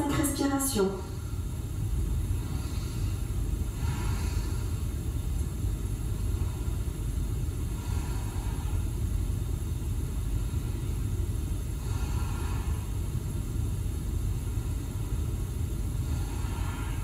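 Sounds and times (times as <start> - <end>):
low background rumble: 0.0 - 17.0
soft slow breath: 1.0 - 17.0.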